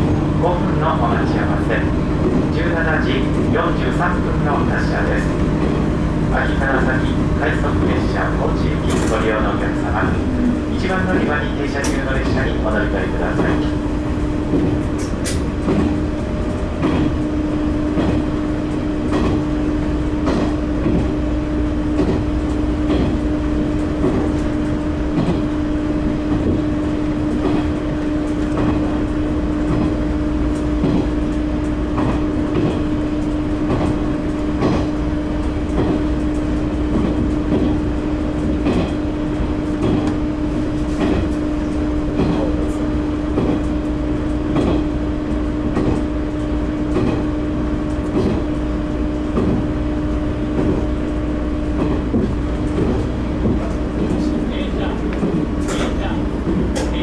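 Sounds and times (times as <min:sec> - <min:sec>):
diesel railcar hum: 0:00.0 - 0:57.0
wheel and track rumble: 0:00.0 - 0:57.0.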